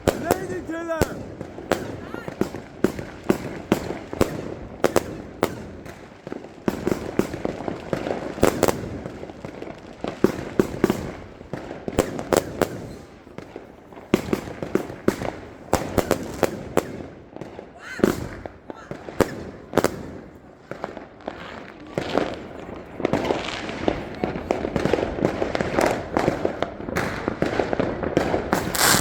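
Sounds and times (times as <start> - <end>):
fireworks banging: 0.0 - 29.0.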